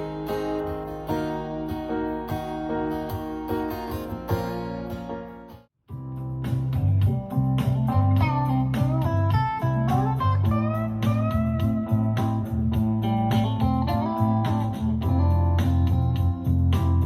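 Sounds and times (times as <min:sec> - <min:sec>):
slide guitar music over beat: 0:00.0 - 0:17.0.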